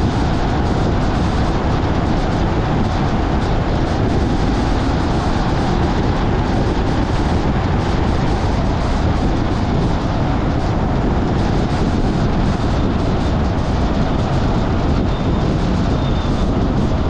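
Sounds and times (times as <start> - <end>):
car road noise: 0.0 - 17.0.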